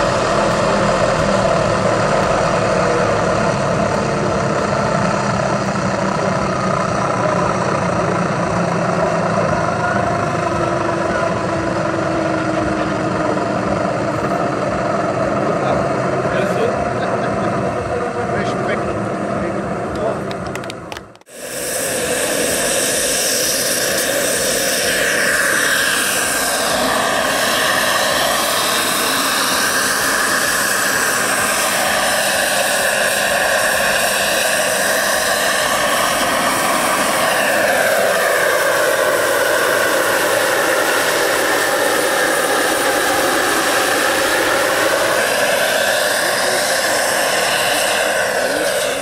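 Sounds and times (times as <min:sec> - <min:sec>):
model helicopter whine: 0:00.0 - 0:49.0.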